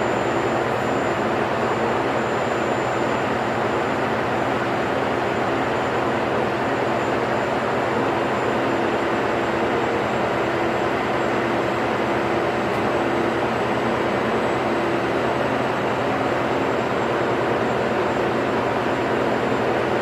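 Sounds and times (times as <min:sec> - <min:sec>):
ship engine machinery drone: 0:00.0 - 0:20.0.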